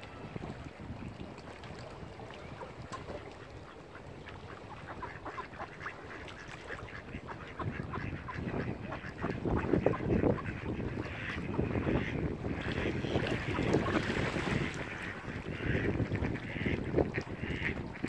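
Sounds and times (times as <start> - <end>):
wind buffeting microphone: 0.0 - 5.8, 6.8 - 18.0
ducks quacking: 2.5 - 18.0.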